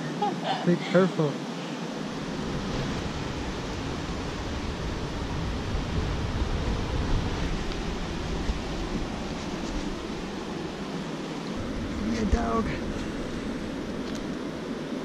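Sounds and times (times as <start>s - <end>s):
ocean surf rushing: 0.0s - 15.0s
wind buffeting microphone: 1.9s - 15.0s.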